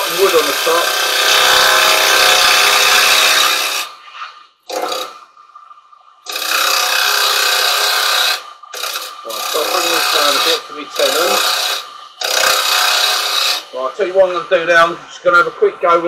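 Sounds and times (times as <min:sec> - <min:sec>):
chisel scraping wood on lathe: 0:00.0 - 0:05.2, 0:06.3 - 0:15.5.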